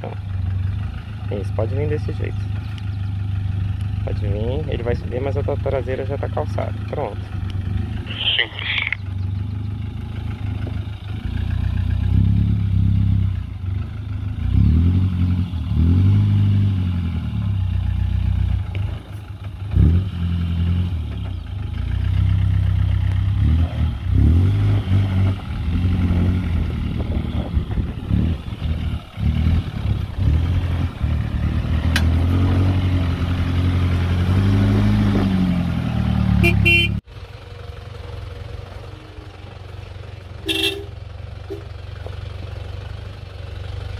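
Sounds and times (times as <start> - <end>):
truck engine revving: 0.0 - 37.1.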